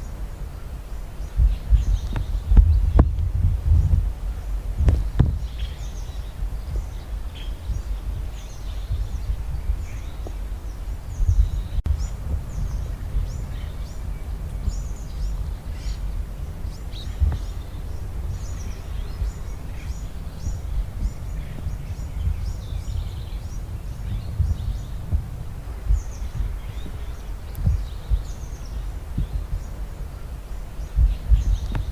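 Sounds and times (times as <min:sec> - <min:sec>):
small birds chirping: 0:00.0 - 0:31.9
steady low rumble: 0:00.0 - 0:31.9.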